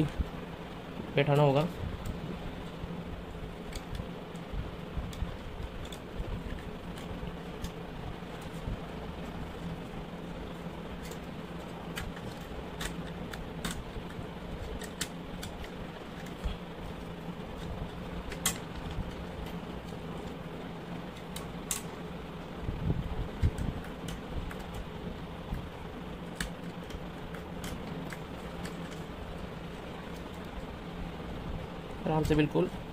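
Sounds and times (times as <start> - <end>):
electric fan humming: 0.0 - 32.9.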